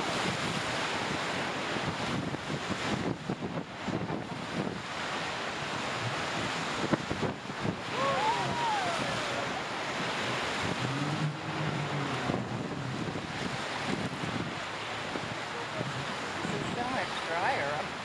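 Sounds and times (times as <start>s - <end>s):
whitewater rapids rushing: 0.0s - 18.0s
wind buffeting microphone: 0.0s - 18.0s.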